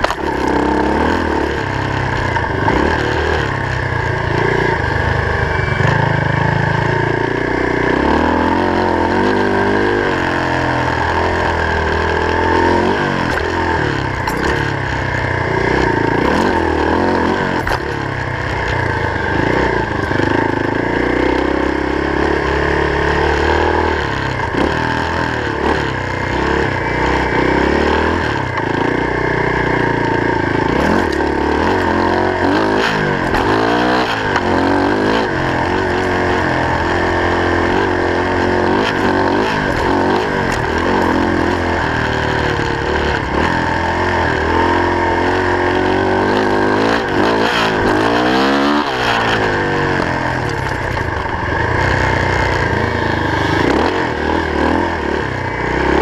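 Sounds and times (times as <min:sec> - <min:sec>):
off-road vehicle engine revving: 0:00.0 - 0:56.0
steady whine: 0:00.0 - 0:56.0.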